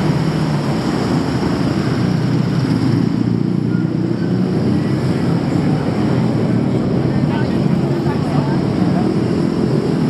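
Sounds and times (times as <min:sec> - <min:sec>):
city traffic engines rumbling: 0:00.0 - 0:10.0.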